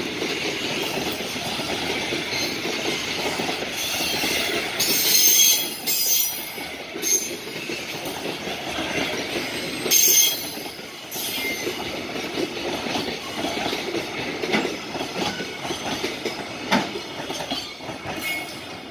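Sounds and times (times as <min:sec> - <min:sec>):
freight train wheels clattering: 0:00.0 - 0:18.9.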